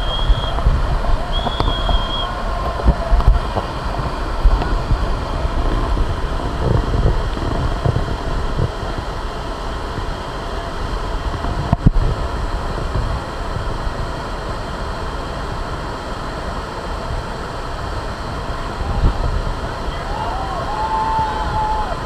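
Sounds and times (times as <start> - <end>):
wind buffeting microphone: 0.0 - 14.7, 17.6 - 22.0
steady rumbling: 0.0 - 22.0.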